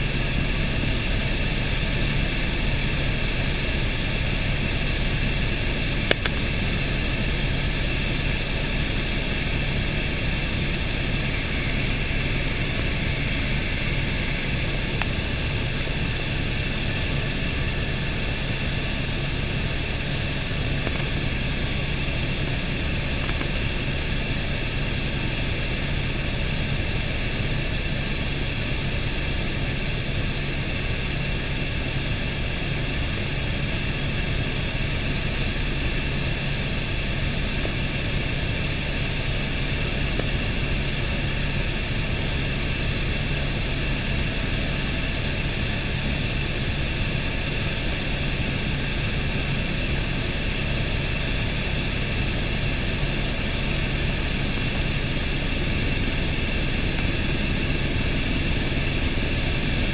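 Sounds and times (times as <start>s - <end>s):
helicopter cabin drone: 0.0s - 59.9s.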